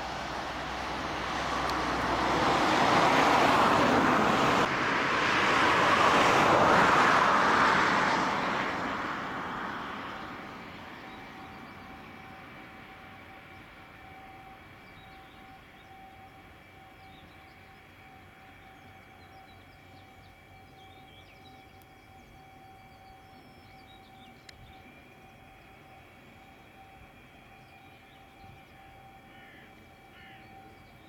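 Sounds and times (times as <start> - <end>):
jet engines idling: 0.0 - 31.0.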